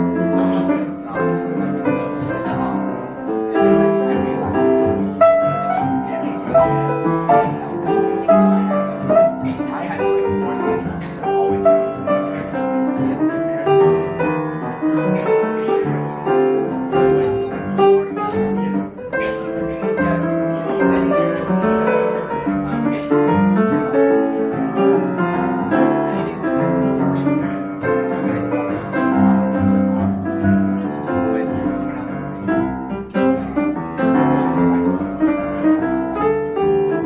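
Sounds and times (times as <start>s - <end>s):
jazz piano: 0.0s - 37.0s.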